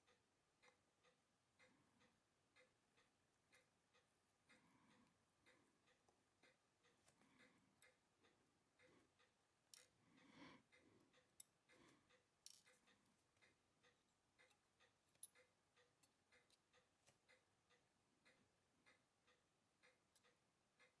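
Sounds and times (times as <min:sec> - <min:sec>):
faint watch ticking: 0:00.0 - 0:21.0
tweezers clicking on small parts: 0:00.0 - 0:21.0.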